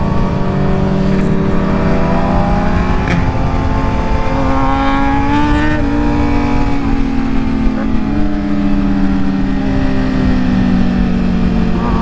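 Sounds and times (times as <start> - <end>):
motorcycle engine revving: 0.0 - 12.0
road rumble: 0.0 - 12.0
wind noise: 0.0 - 12.0.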